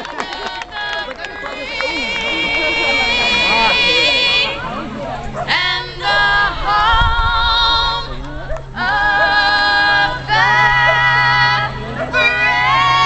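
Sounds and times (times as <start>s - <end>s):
woman singing with vibrato: 0.0s - 4.6s, 5.4s - 13.0s.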